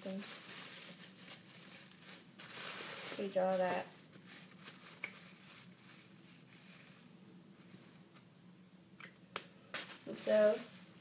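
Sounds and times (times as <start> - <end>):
plastic bag rustling: 0.0 - 8.2, 9.8 - 11.0.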